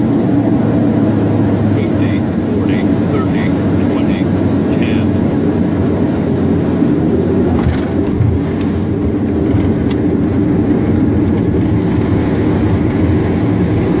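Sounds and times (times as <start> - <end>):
aircraft cockpit engine rumble: 0.0 - 14.0.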